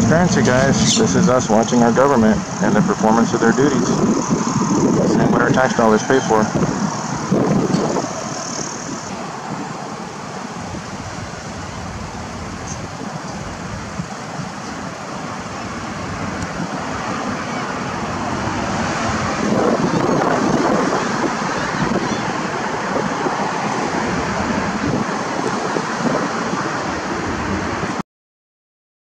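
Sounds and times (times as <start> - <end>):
street traffic noise: 0.0 - 28.0
wind on microphone: 0.0 - 28.0.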